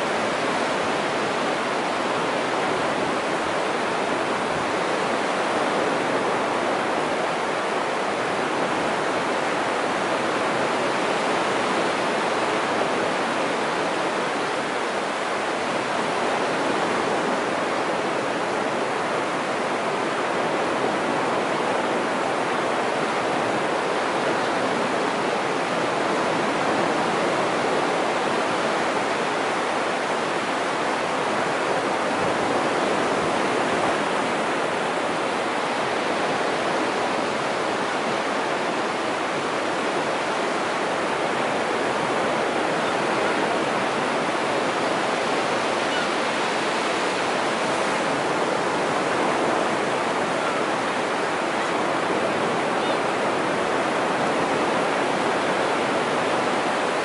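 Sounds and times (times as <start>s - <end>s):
surf breaking on a beach: 0.0s - 57.0s.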